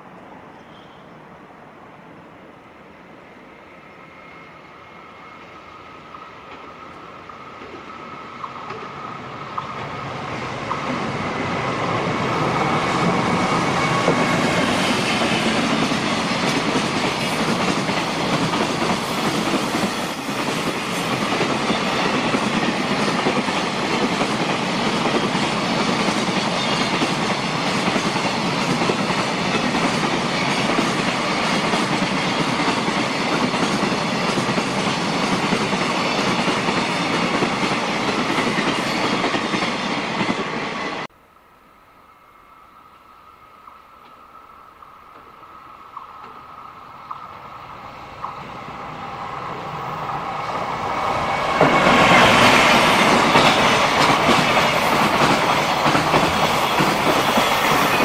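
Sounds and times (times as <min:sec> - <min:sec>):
freight train wheels on rails: 0:00.0 - 0:41.1, 0:42.5 - 0:58.0.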